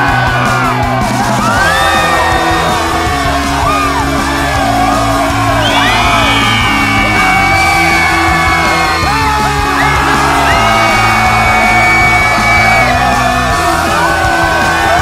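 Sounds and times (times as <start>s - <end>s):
crowd yelling and whooping: 0.0s - 15.0s
loud music with bass line: 0.0s - 15.0s.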